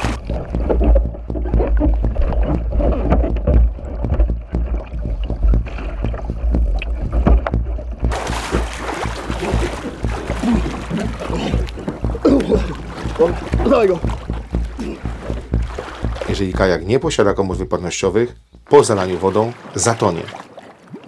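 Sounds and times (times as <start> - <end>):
muffled underwater churning: 0.0 - 21.0
water splashing and sloshing: 0.0 - 21.0.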